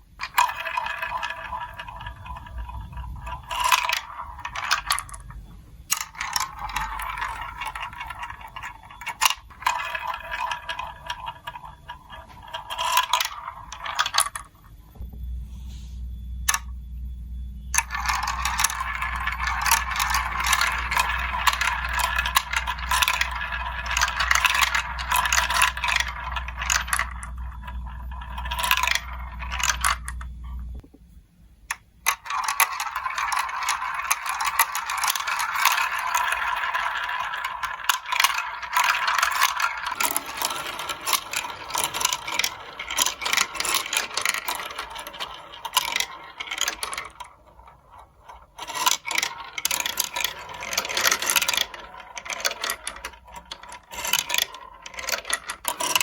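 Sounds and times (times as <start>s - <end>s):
marbles rattling down plastic track: 0.0s - 14.7s, 17.7s - 30.4s, 31.7s - 56.0s
low steady hum: 0.0s - 56.0s.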